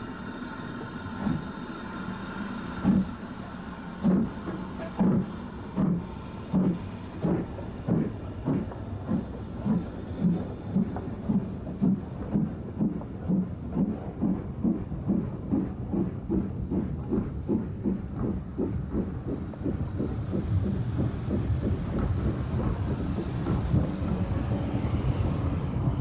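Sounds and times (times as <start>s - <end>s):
steam locomotive exhaust beats: 0.0s - 26.0s.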